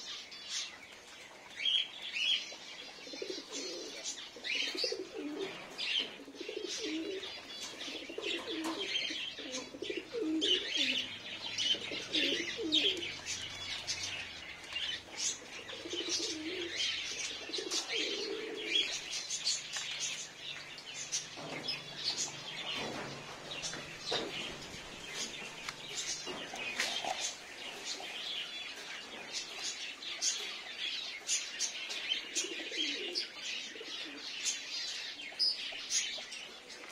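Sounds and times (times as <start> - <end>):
small birds chirping: 0.0 - 36.9
pigeons cooing: 2.2 - 34.6.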